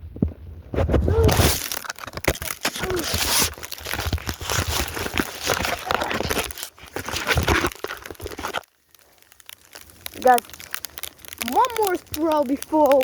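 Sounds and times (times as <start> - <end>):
snow crunching: 0.7 - 13.0.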